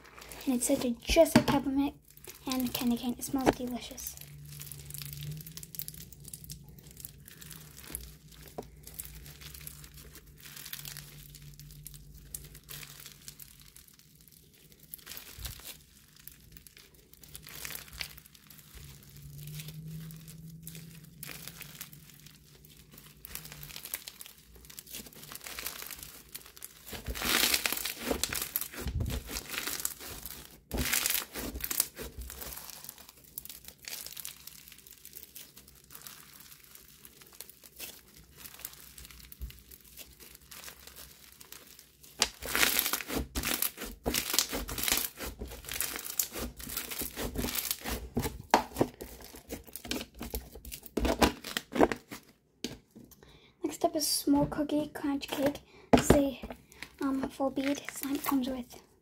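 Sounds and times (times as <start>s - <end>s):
bead slime crackling: 0.0s - 53.2s, 55.2s - 59.0s.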